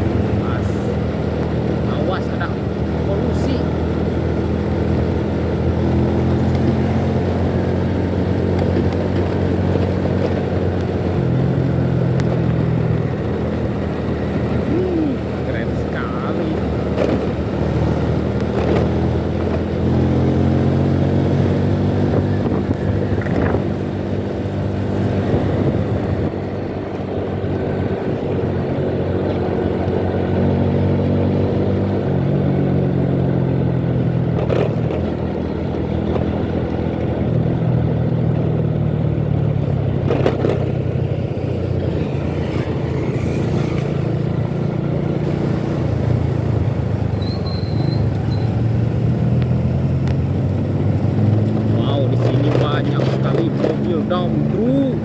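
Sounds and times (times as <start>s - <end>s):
engine drone in traffic: 0.0s - 55.0s.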